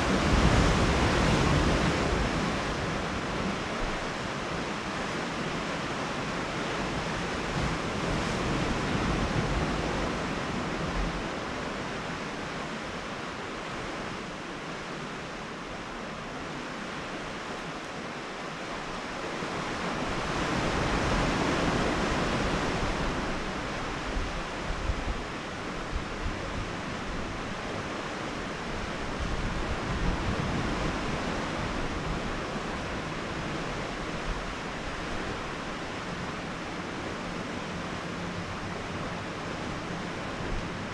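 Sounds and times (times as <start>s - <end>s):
surf on rocky shore: 0.0s - 40.9s
wind rumble on microphone: 0.0s - 40.9s.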